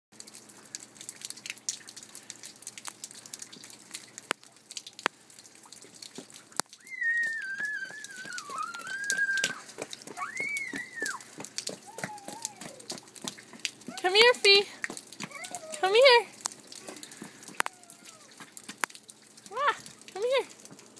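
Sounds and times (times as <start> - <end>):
water dripping: 0.1 - 20.9.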